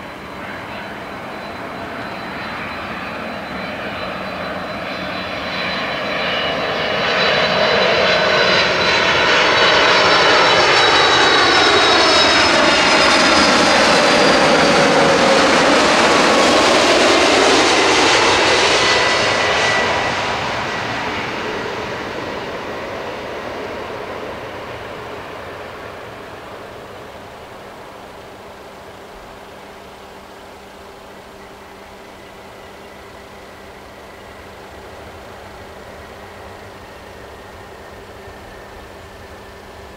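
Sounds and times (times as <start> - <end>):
jet airliner flying low overhead: 0.0 - 39.9.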